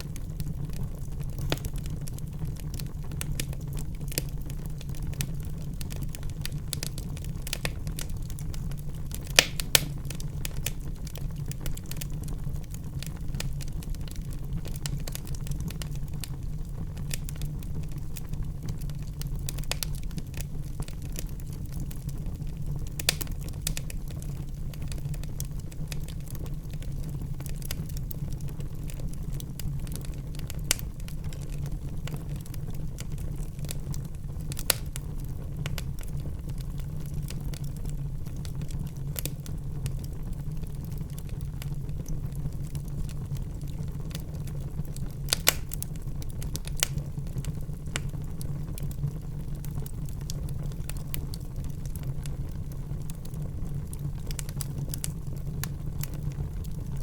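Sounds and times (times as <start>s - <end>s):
wood fire crackling: 0.0s - 57.0s
sharp pops from fire: 1.2s - 28.2s, 29.8s - 36.2s, 43.8s - 56.9s.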